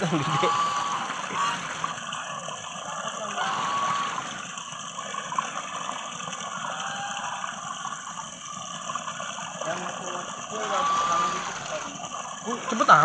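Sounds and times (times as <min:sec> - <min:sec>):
geese slurping wet feed: 0:00.0 - 0:13.0.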